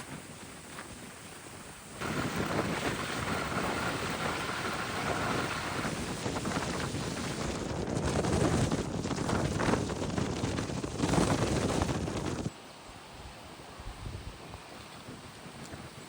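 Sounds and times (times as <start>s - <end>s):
gusty wind buffeting microphone: 0.0s - 12.5s, 13.1s - 16.0s.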